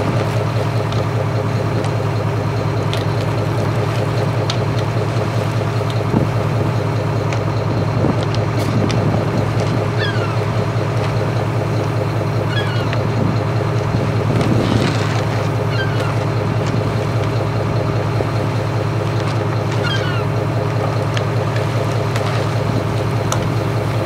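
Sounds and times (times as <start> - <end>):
boat engine droning: 0.0 - 24.0
water wash against hull: 0.0 - 24.0
wind: 0.0 - 24.0.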